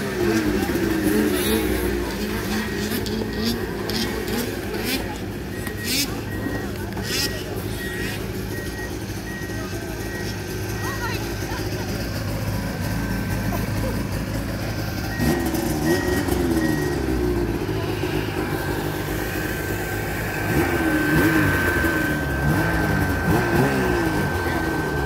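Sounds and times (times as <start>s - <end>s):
snowmobile engines running: 0.0s - 25.0s.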